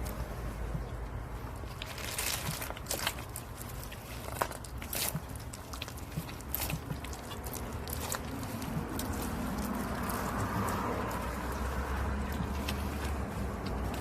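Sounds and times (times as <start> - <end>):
honeycomb crackling and crunching: 0.0 - 14.0.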